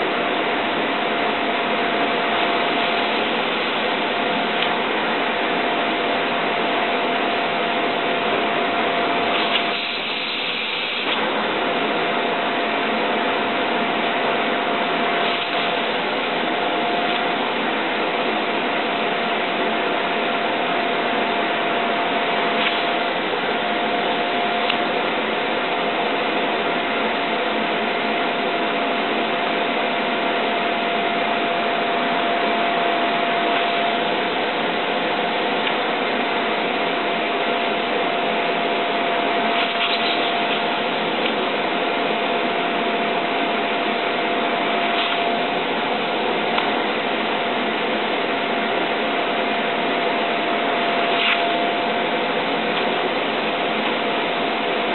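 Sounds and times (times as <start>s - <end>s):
vacuum cleaner whining: 0.0s - 54.9s.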